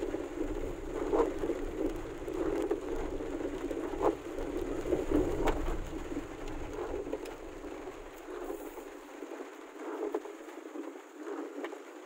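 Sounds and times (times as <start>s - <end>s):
heavy rain on a vehicle roof: 0.0s - 12.0s.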